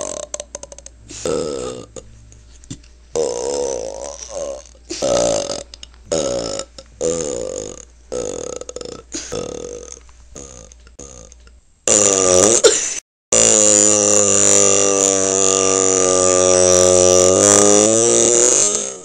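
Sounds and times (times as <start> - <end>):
person belching: 0.0 - 2.1, 3.1 - 19.0.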